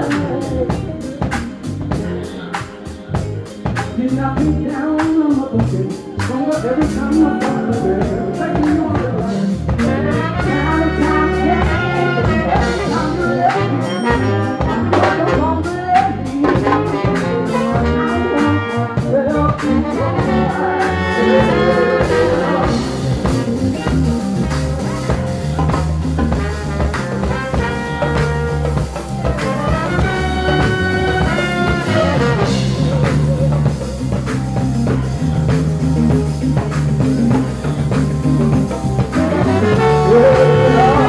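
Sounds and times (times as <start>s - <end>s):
drums: 0.0s - 41.0s
horn section playing phrases: 0.0s - 41.0s
live band playing: 0.0s - 41.0s
steady bass line: 0.0s - 41.0s.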